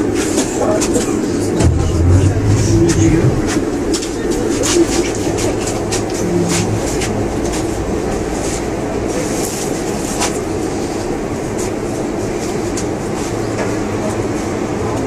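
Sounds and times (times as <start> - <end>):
monorail car hum and rumble: 0.0 - 15.0.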